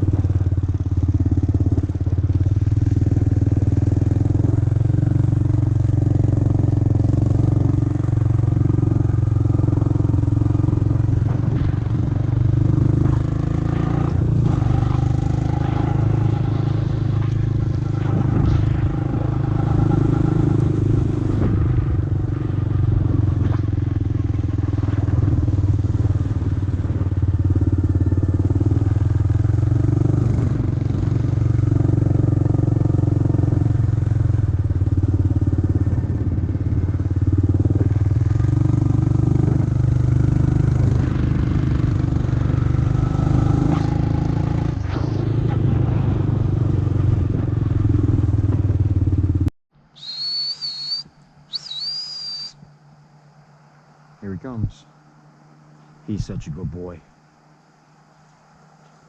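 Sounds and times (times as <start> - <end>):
atv engine running: 0.0 - 49.5.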